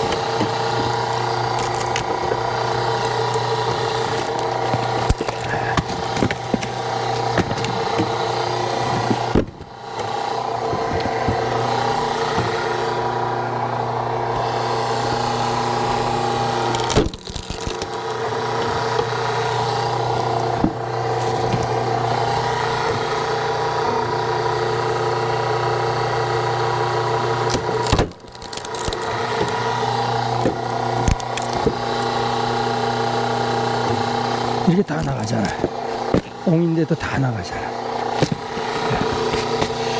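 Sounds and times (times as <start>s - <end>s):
wood cracking: 0.0s - 25.6s, 27.4s - 36.5s, 37.8s - 39.9s
hydraulic log splitter humming: 0.0s - 39.9s.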